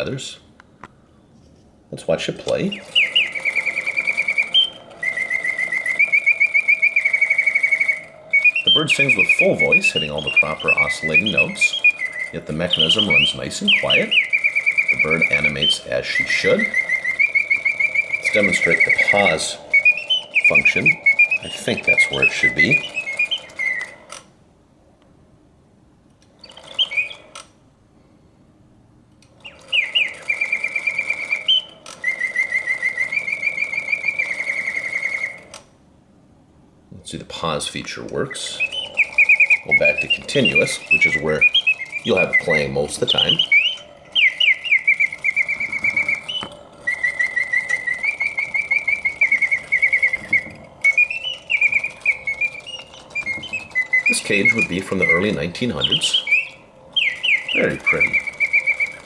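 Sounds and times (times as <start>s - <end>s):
mechanical bird whistling: 0.0s - 1.0s, 1.9s - 24.4s, 26.2s - 27.6s, 29.2s - 35.8s, 36.9s - 59.0s.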